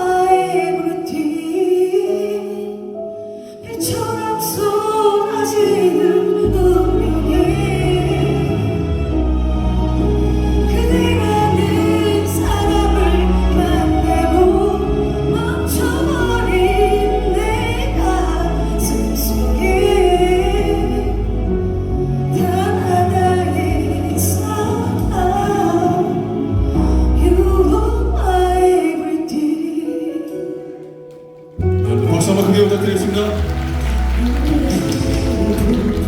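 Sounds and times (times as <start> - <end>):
person singing love song: 0.0 - 36.0.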